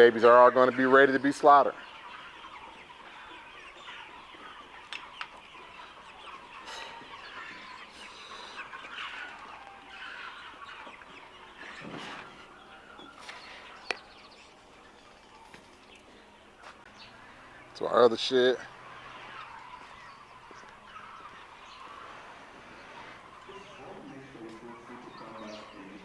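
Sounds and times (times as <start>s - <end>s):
chickens chattering: 0.0s - 26.0s.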